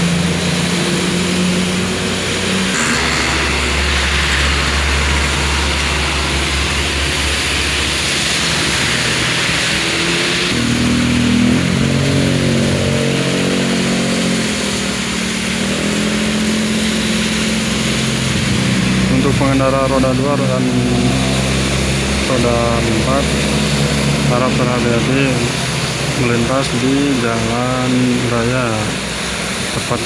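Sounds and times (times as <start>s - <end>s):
heavy rain on a wet road: 0.0s - 2.8s, 5.2s - 30.0s
diesel engine labouring uphill: 0.0s - 30.0s.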